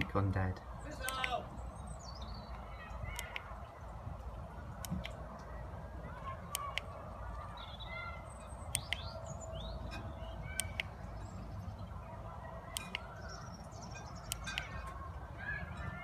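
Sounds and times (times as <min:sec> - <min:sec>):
birds chirping: 0:00.0 - 0:16.0
steady low rumble: 0:00.0 - 0:16.0
sharp clicks: 0:00.9 - 0:15.1.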